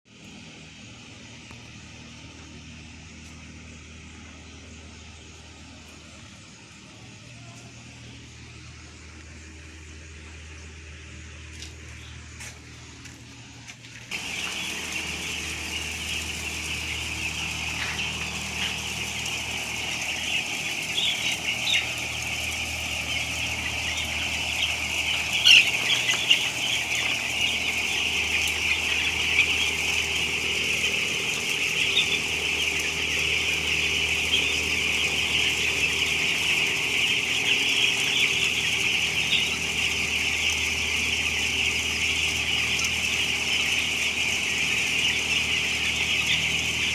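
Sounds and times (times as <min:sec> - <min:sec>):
chicks peeping: 0:00.2 - 0:08.6, 0:11.4 - 0:46.9
steady low hum: 0:00.2 - 0:46.9.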